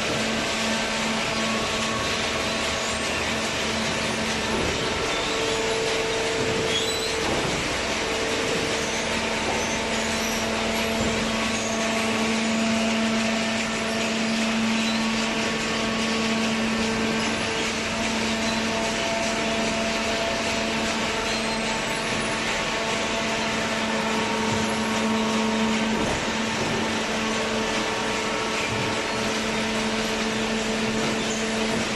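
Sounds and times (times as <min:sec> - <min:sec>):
motor and pump whine: 0:00.0 - 0:31.9.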